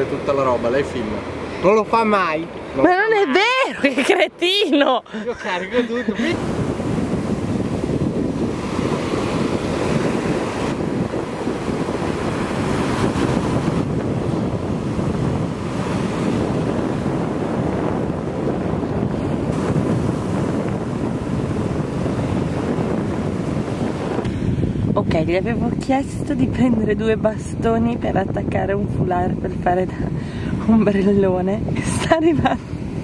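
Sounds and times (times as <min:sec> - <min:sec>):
ocean surf breaking: 0:00.0 - 0:26.5
wind buffeting microphone: 0:00.0 - 0:33.0.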